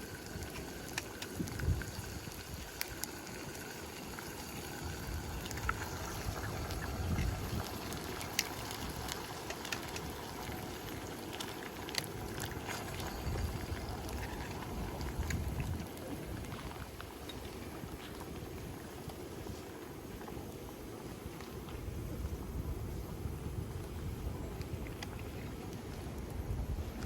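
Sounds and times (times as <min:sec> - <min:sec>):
wood fire crackling: 0:00.0 - 0:21.7.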